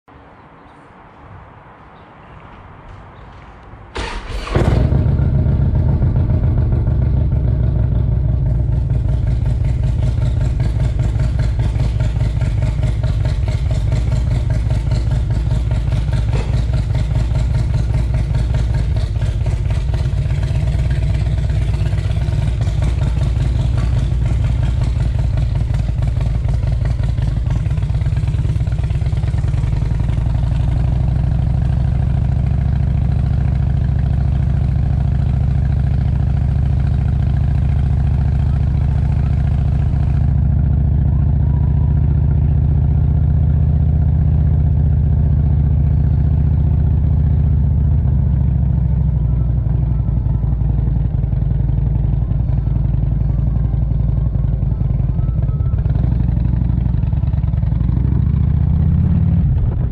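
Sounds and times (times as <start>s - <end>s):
motorcycle engine rumbling: 2.8s - 59.9s.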